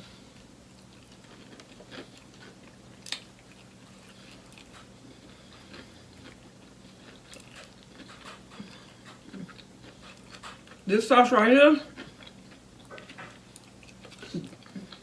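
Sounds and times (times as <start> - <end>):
chewing crispy fried food: 0.2 - 15.0.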